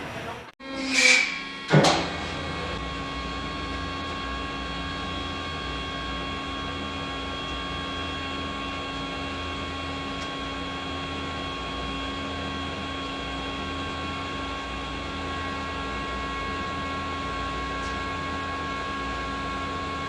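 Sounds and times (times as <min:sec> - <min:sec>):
roll-bending machine droning: 0:00.0 - 0:20.0.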